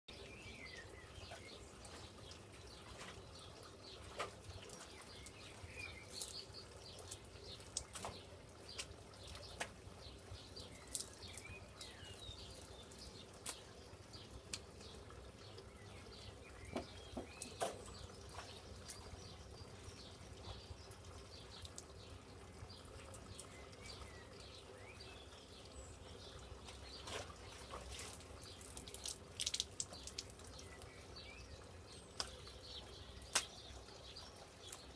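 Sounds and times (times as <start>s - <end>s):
light taps and drips: 0.1s - 34.9s
small birds chirping: 0.1s - 34.9s.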